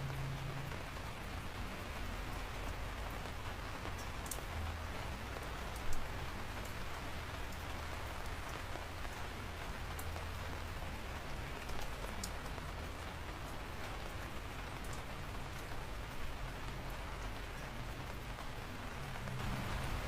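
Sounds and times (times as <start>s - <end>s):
steady rain hiss: 0.0s - 20.0s
raindrop ticks: 1.6s - 20.0s.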